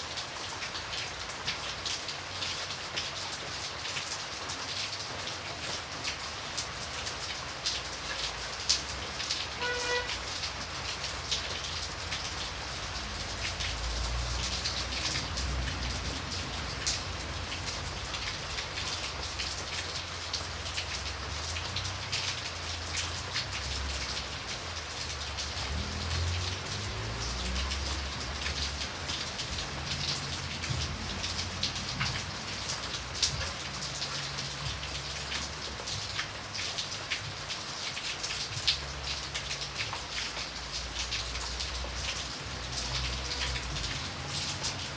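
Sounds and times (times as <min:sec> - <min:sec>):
rain drops ticking on surface: 0:00.0 - 0:44.9.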